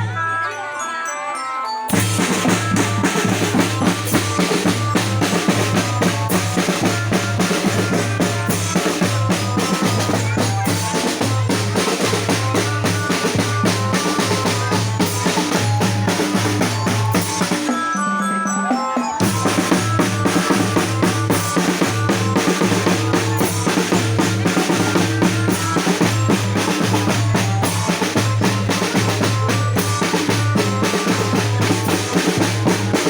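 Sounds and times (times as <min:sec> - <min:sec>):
drum-driven music with bass: 0:01.9 - 0:17.9, 0:19.2 - 0:33.0.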